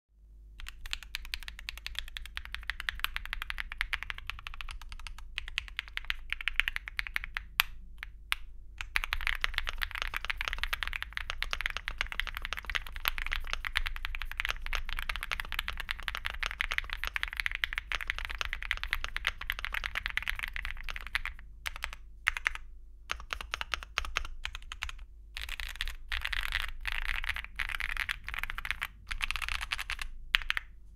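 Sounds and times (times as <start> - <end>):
mechanical keyboard typing: 0.6 - 30.7.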